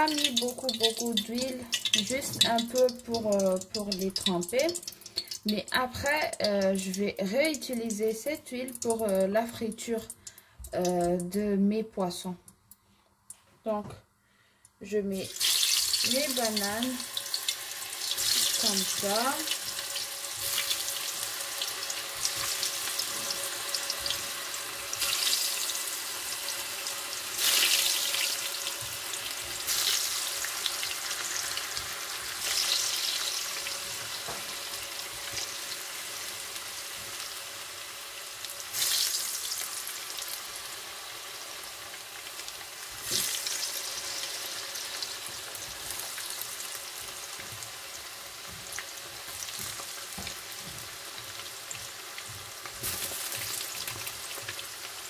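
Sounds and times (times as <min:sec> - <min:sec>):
food sizzling in hot oil: 0:00.0 - 0:11.3, 0:15.1 - 0:55.0.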